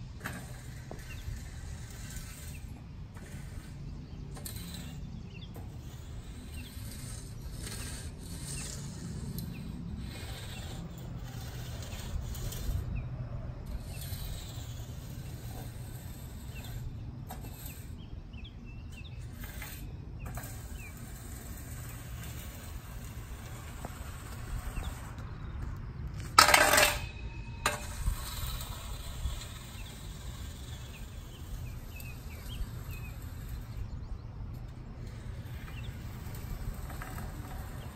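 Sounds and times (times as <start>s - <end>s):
rake tines scraping and rattling: 0.0s - 37.9s.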